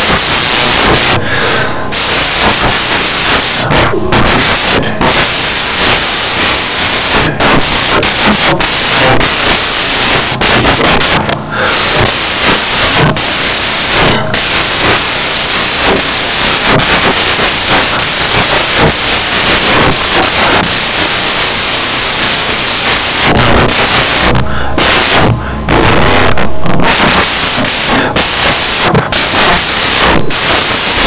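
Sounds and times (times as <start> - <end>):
loud static hiss: 0.0 - 31.0.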